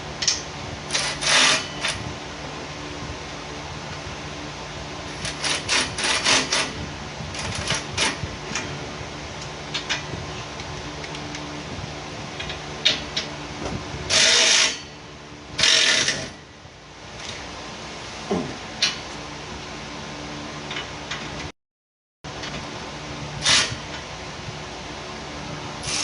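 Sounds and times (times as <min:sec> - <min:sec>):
steady low hum: 0:00.0 - 0:21.5, 0:22.3 - 0:26.0.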